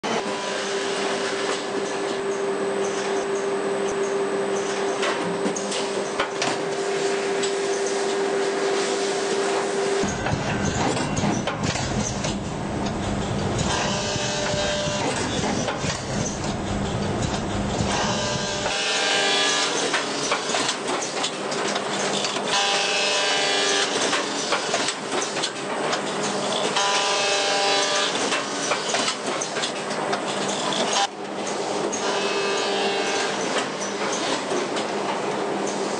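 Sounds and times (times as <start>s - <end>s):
binding machinery running: 0.0s - 35.9s.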